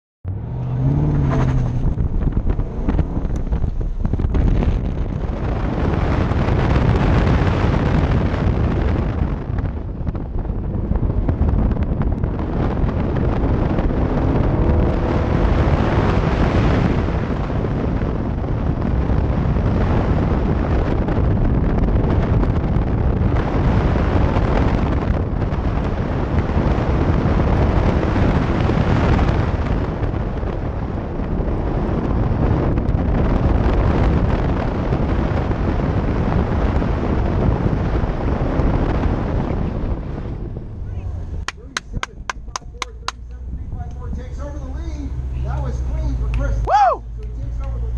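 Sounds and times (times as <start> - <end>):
wind buffeting microphone: 0.2 - 47.9
sports car engine revving: 0.3 - 36.0, 37.7 - 47.9.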